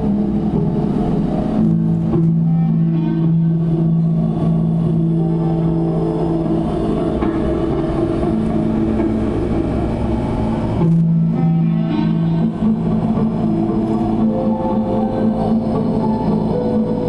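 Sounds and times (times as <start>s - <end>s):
long held low amplified note: 0.0s - 17.0s
rumbling low drone: 0.0s - 17.0s.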